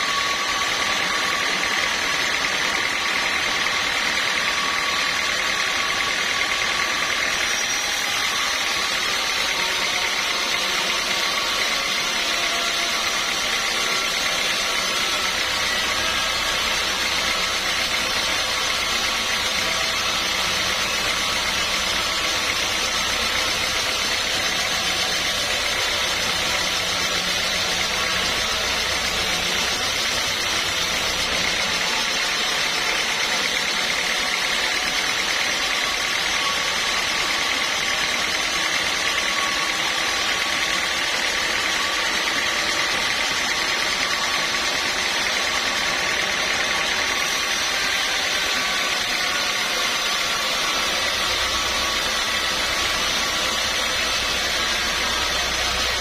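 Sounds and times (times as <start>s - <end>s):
sawmill machinery running: 0.0s - 56.0s
steady whining tones: 0.0s - 56.0s.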